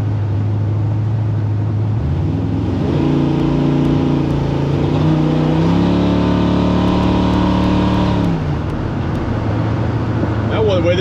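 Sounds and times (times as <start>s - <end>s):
engine running hard: 0.0s - 11.0s.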